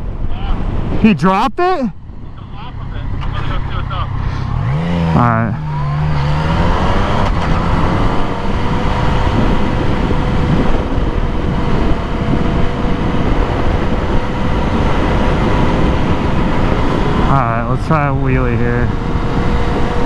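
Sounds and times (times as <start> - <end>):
rushing wind noise: 0.0 - 20.0
motorcycle engine accelerating: 2.3 - 20.0.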